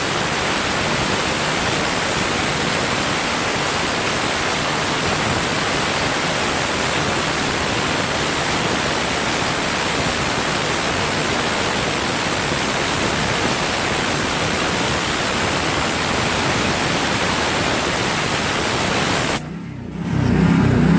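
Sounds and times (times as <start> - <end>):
pressure washer spraying concrete: 0.0 - 19.4.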